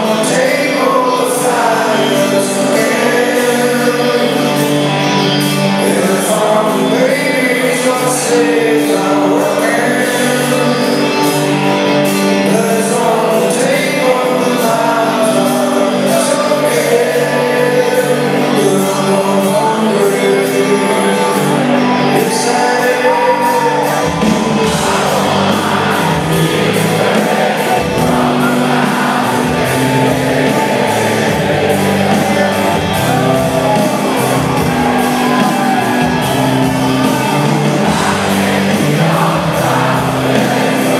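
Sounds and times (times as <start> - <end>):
bass guitar: 0.0 - 40.9
electric guitars: 0.0 - 40.9
man singing lead vocal: 0.0 - 40.9
rock band playing: 0.0 - 40.9.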